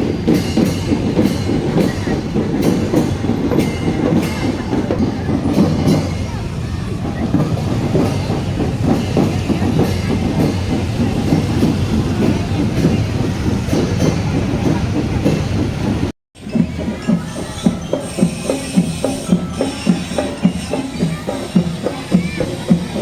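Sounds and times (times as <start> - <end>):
marching band drums: 0.0 - 23.0.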